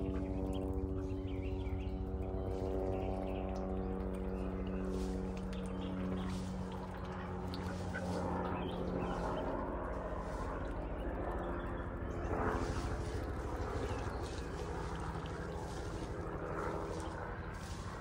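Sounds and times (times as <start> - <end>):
ducks moving in mud: 0.0 - 18.0
low motor hum: 0.0 - 18.0.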